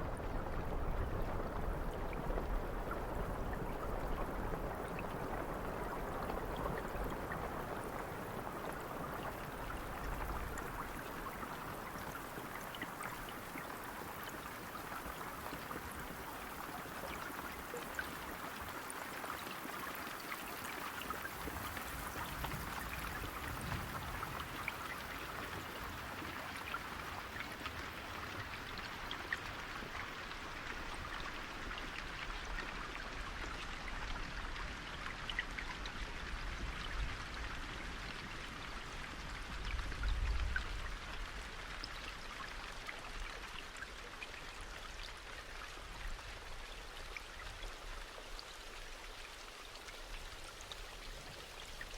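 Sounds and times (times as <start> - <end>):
raindrops ticking on surfaces: 0.0 - 51.9
steady rain: 0.0 - 51.9.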